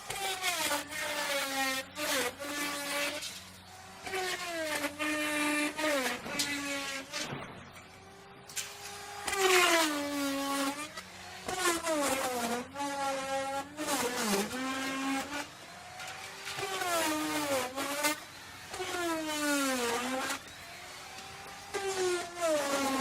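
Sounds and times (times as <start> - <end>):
wood router cutting wood: 0.0 - 23.0.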